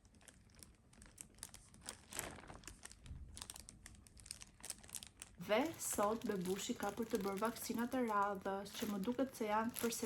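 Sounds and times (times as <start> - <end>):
crinkling and rustling: 0.0 - 10.0.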